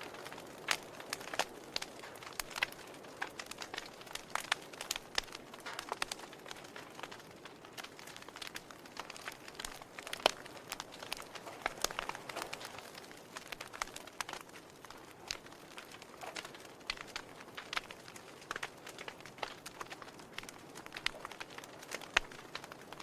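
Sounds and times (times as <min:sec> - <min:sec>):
fire crackling in a fireplace: 0:00.0 - 0:23.0.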